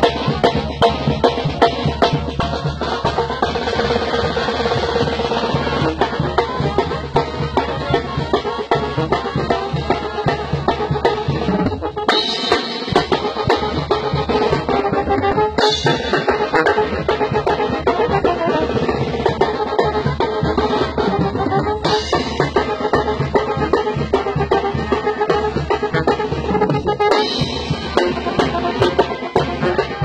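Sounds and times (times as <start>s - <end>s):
bass drum beat: 0.0s - 30.0s
snare drum: 0.0s - 30.0s
wind instruments: 0.0s - 30.0s.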